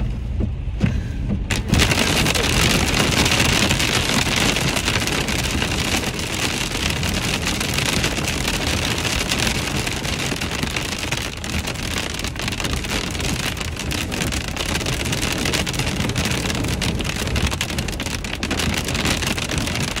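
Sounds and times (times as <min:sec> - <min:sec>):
low road rumble: 0:00.0 - 0:20.0
hail and rain on car roof: 0:01.5 - 0:20.0.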